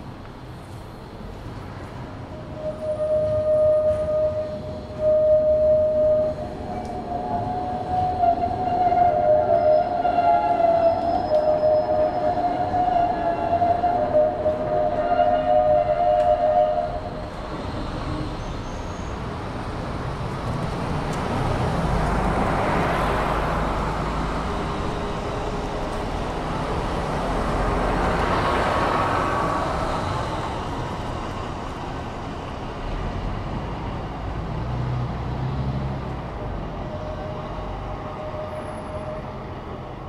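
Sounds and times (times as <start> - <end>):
background traffic noise: 0.0 - 40.0
vehicles passing: 0.0 - 40.0.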